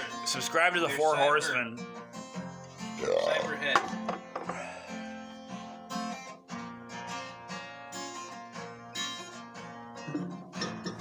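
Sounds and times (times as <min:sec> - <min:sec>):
guitar playing: 0:00.0 - 0:11.0.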